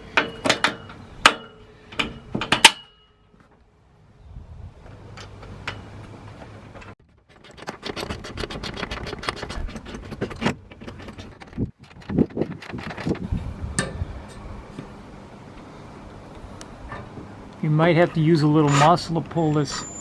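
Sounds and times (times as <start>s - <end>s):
shed parts rattling and clattering: 0.0s - 3.7s, 4.8s - 19.8s.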